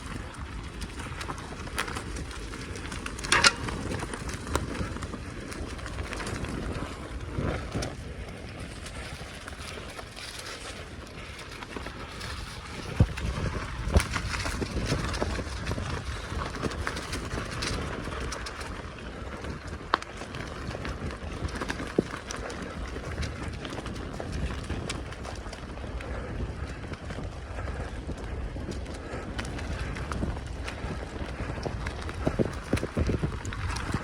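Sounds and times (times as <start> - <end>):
bicycle clicks: 0.0 - 34.0
bicycle tyre and rattle noise: 0.0 - 34.0.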